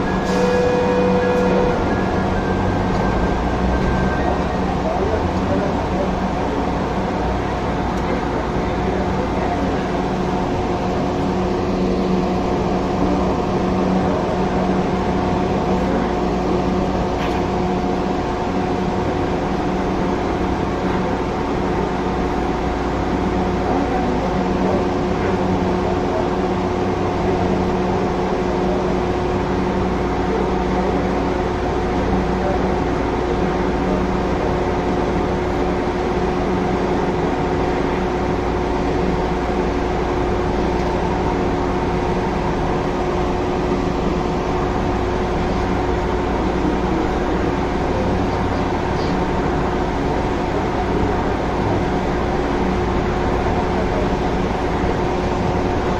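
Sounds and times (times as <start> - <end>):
train cab hum: 0.0 - 55.9.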